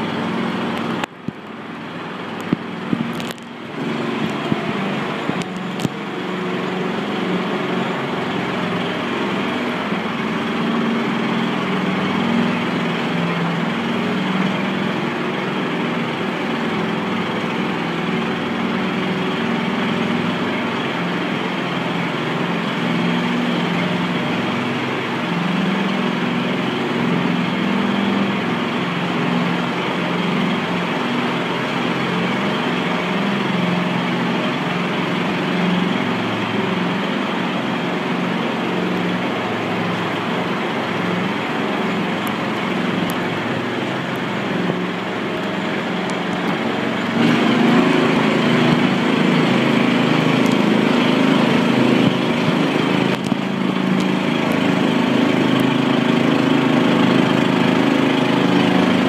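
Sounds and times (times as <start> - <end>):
small vehicle engine running: 0.0 - 59.0.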